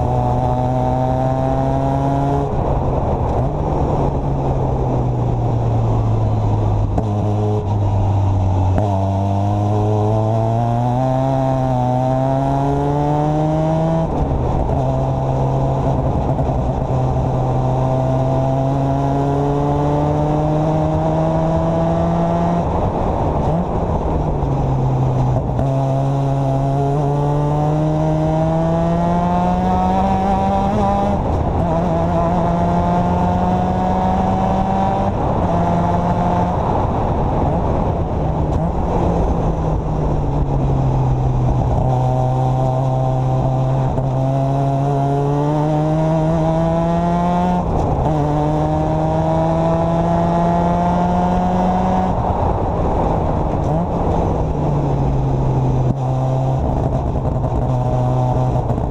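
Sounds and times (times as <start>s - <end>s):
racing car engine revving: 0.0s - 3.6s, 5.5s - 24.0s, 24.8s - 58.9s
wind and road noise: 0.0s - 58.9s.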